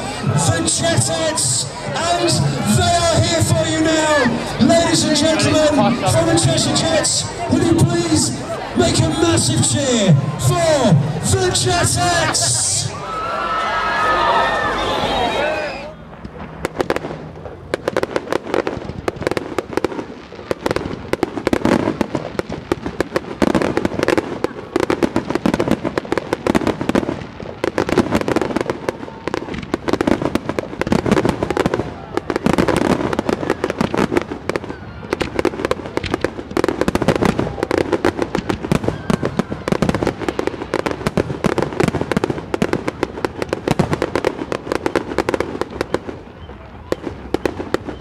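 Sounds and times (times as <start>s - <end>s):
firework bangs and crackles: 0.0s - 48.0s.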